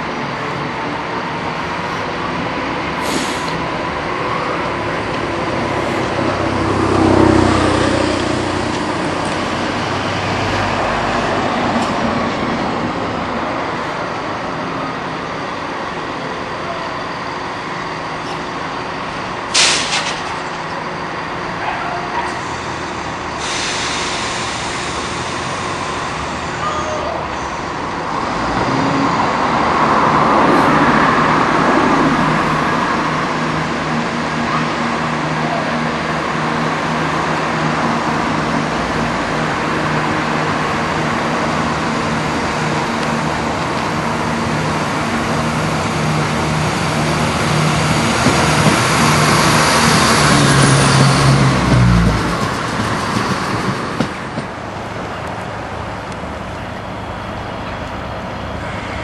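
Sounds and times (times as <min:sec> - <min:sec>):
diesel train engine accelerating: 0:00.0 - 0:59.0.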